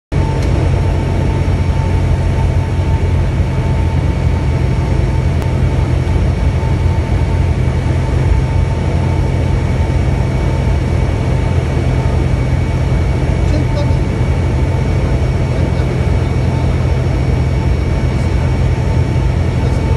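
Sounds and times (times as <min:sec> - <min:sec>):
airplane engine heard from cabin: 0:00.1 - 0:19.9.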